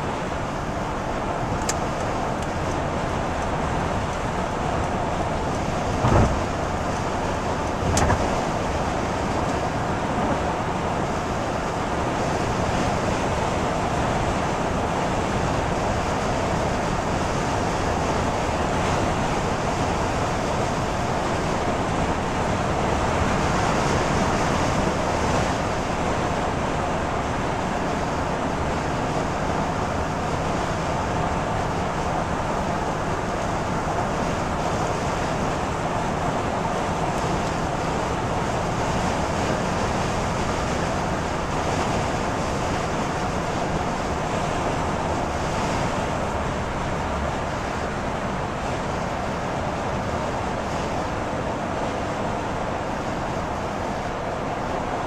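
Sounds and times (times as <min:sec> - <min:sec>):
tyres hissing on wet road: 0:00.0 - 0:55.0.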